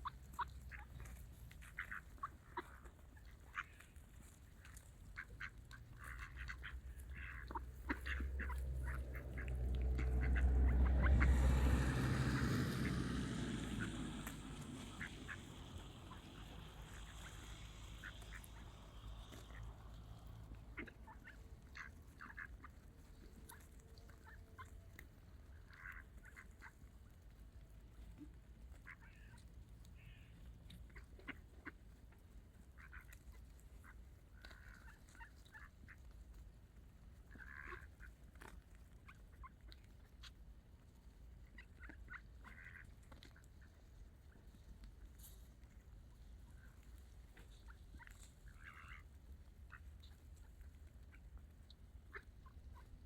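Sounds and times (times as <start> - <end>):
ducks calling faintly: 0.0 - 53.0
low background rumble: 0.0 - 53.0.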